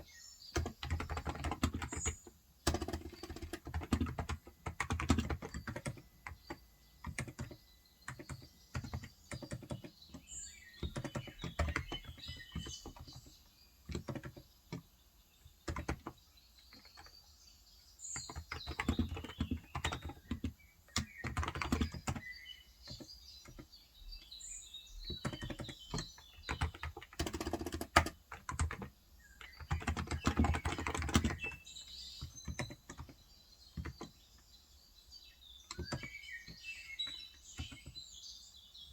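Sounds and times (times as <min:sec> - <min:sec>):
faint bird chirps: 0:00.0 - 0:27.8, 0:28.5 - 0:38.9
keyboard typing: 0:00.6 - 0:14.9, 0:15.5 - 0:17.2, 0:18.2 - 0:22.3, 0:25.1 - 0:34.3, 0:35.7 - 0:38.0.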